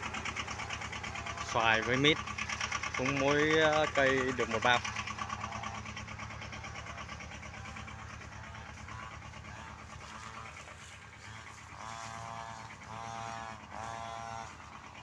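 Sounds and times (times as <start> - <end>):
distant brush cutter engine: 0.0 - 15.0.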